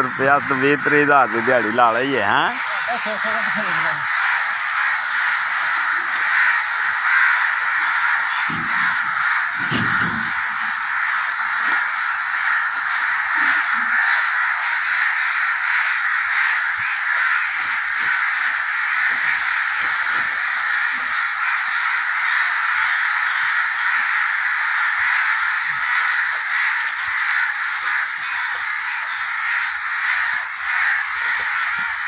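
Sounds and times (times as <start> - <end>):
flock of birds calling: 0.0 - 32.0.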